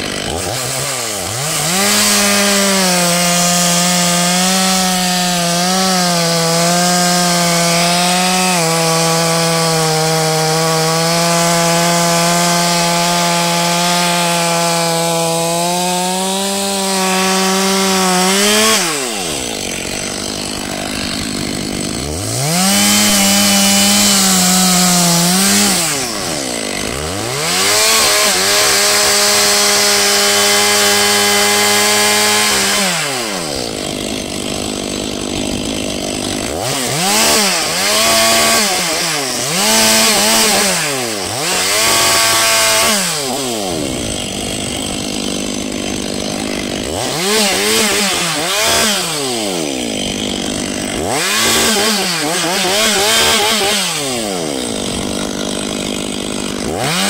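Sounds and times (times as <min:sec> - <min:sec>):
chainsaw cutting and revving: 0:00.0 - 0:57.0.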